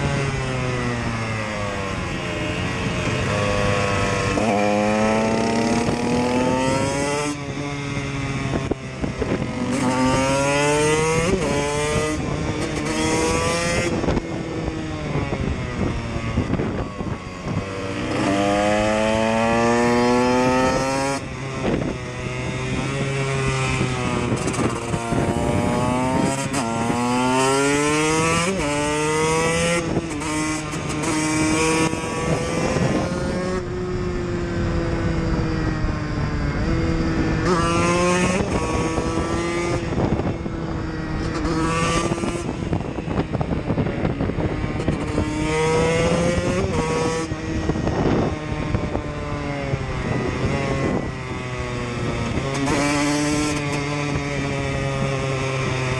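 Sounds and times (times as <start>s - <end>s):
dirt bike engine accelerating: 0.0s - 55.9s.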